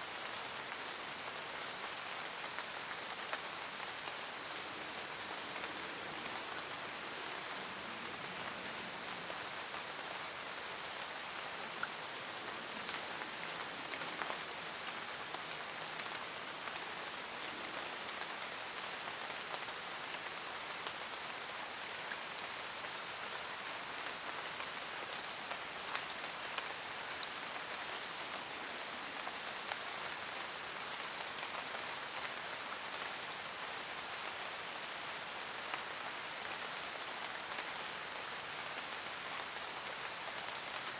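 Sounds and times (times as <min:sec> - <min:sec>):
steady rain hiss: 0:00.0 - 0:40.9
raindrops ticking on leaves: 0:00.1 - 0:40.9.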